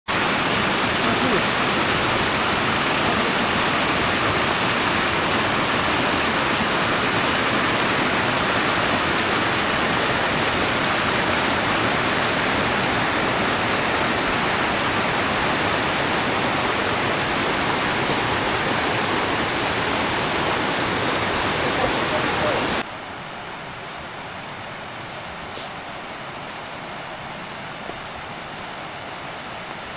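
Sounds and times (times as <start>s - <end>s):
stream rushing over rocks: 0.1s - 29.9s.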